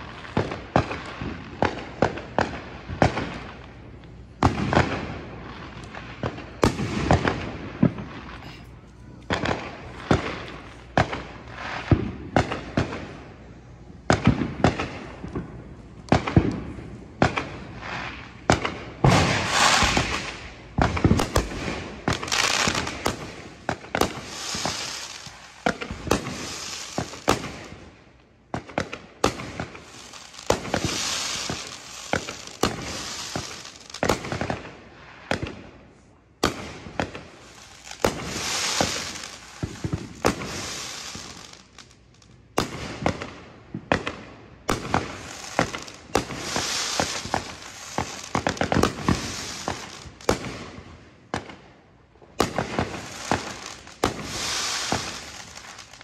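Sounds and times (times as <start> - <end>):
firework bangs and pops: 0.0 - 13.4, 14.0 - 35.8, 36.4 - 56.0
firework crackling: 0.0 - 51.6, 52.3 - 56.0.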